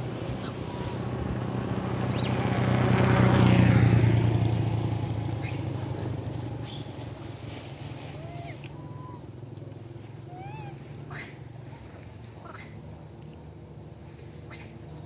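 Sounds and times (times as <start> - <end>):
motorcycle passing: 0.0 - 15.0.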